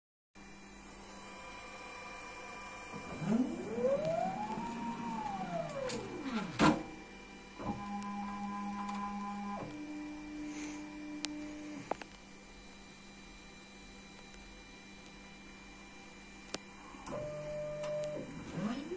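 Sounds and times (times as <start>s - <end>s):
low steady hum: 0.4s - 18.9s
machine drive whining: 0.6s - 13.3s, 14.0s - 18.9s.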